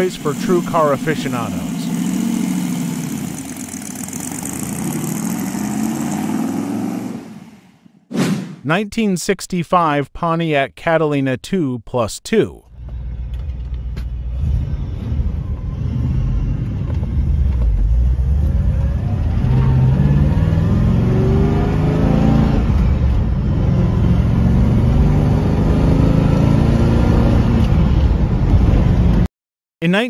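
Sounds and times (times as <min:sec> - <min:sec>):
car engine accelerating: 0:00.0 - 0:07.9, 0:12.8 - 0:29.3.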